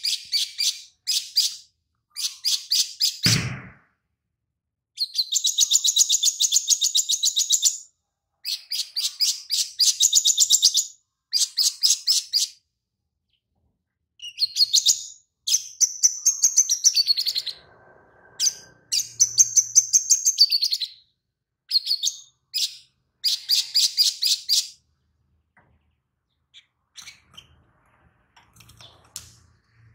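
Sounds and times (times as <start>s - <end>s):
bird trilling song: 0.0s - 3.5s, 5.0s - 12.6s, 14.2s - 24.9s, 25.6s - 27.8s.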